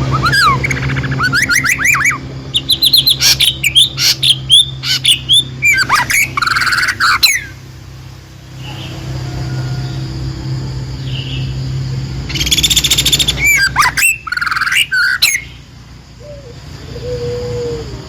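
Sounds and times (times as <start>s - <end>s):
songbird singing: 0.0s - 18.0s
steady low hum: 0.0s - 18.0s.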